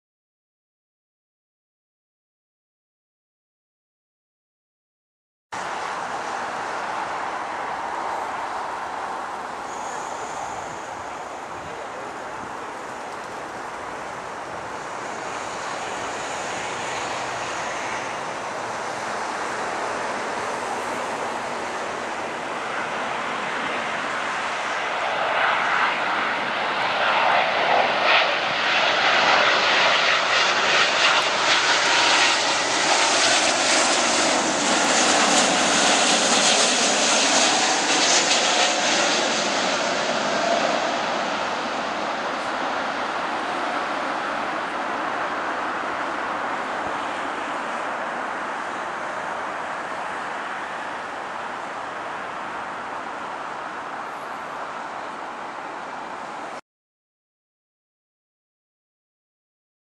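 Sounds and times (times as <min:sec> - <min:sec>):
jet airliner engines on approach: 0:05.6 - 0:56.6.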